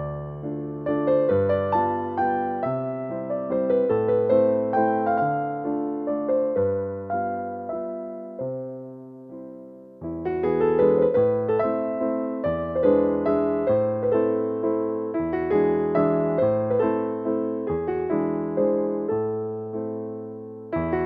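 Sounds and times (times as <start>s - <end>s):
soft piano chords: 0.0s - 21.0s.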